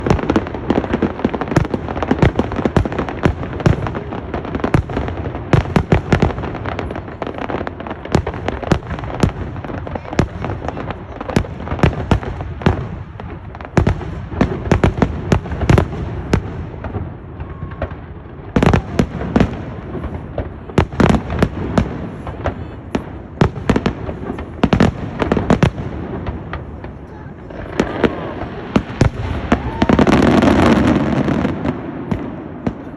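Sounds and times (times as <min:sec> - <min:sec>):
fireworks crackling: 0:00.0 - 0:32.9.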